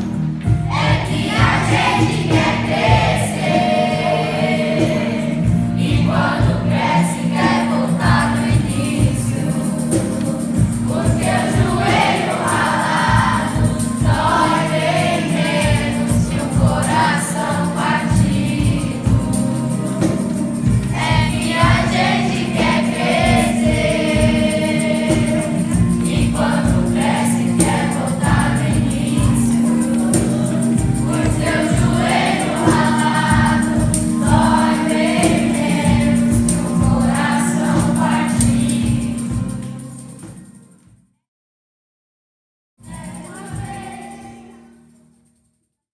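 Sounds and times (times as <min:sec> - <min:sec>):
choir singing with accompaniment: 0:00.0 - 0:40.8, 0:42.8 - 0:45.0.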